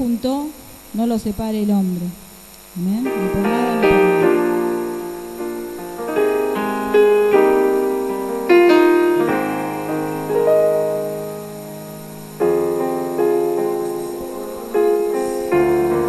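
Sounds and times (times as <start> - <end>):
slow piano music: 3.0 - 16.0.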